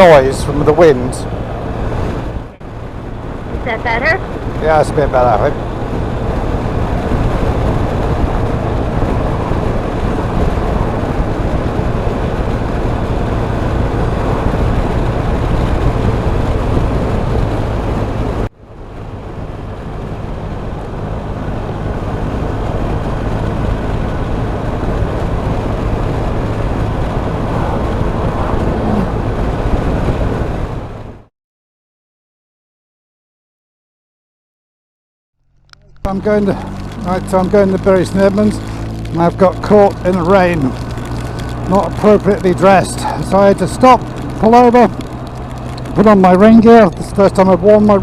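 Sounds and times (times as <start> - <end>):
heavy wind noise: 0.0 - 31.3, 35.7 - 48.0
motorcycle engine hum: 0.0 - 31.3, 35.4 - 48.0.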